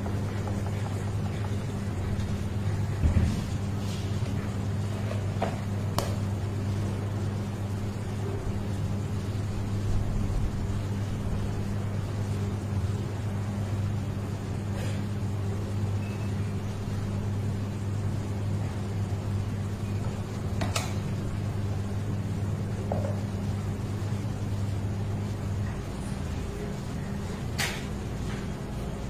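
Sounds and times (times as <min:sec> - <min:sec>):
electrical appliance hum: 0:00.0 - 0:29.0.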